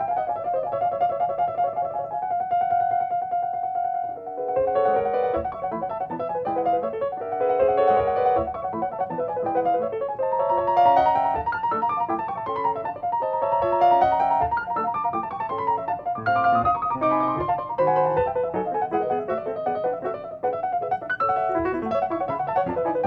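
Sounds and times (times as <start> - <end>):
classical piano piece: 0.0 - 23.0.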